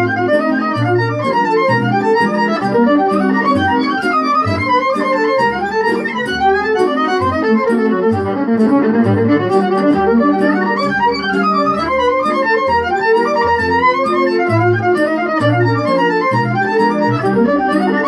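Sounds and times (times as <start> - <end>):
bass line: 0.0 - 18.0
electronic keyboard accompaniment: 0.0 - 18.0
percussive beat: 0.0 - 18.0
violin melody: 0.0 - 18.0.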